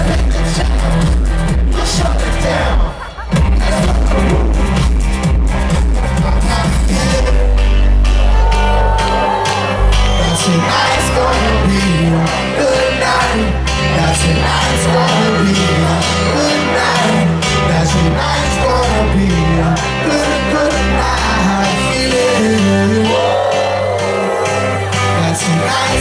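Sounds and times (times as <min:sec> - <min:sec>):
male vocal: 0:00.0 - 0:04.9, 0:05.7 - 0:08.8, 0:10.2 - 0:26.0
live pop dance music: 0:00.0 - 0:26.0.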